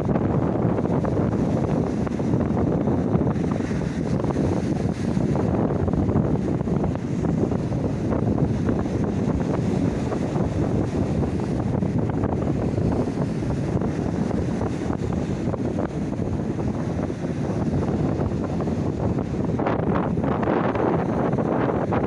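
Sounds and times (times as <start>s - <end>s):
sea waves washing: 0.0s - 22.0s
wind rumbling on microphone: 0.0s - 22.0s.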